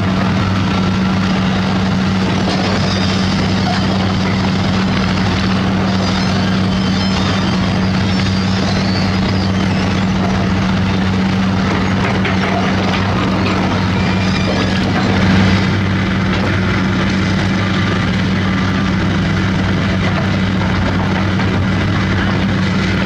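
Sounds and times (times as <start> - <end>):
diesel engine drone: 0.0 - 23.0.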